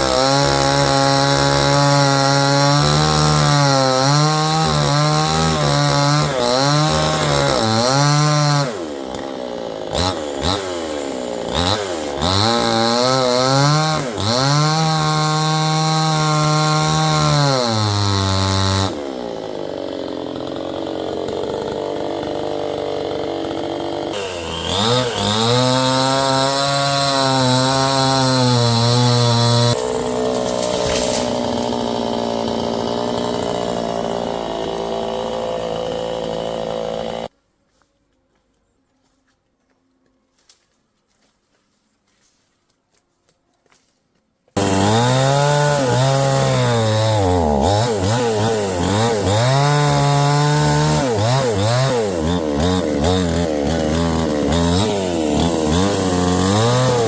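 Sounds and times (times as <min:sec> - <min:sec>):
chainsaw revving and idling: 0:00.0 - 0:37.4, 0:44.6 - 0:57.0.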